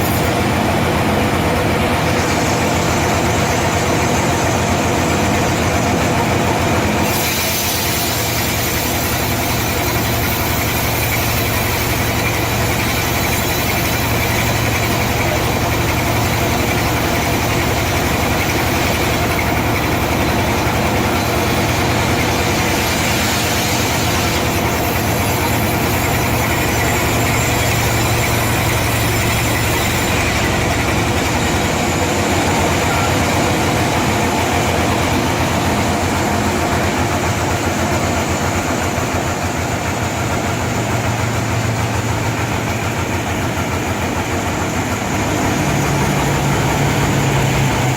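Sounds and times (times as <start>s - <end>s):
saw hissing: 0.0s - 47.9s
sawmill engine hum: 0.0s - 47.9s.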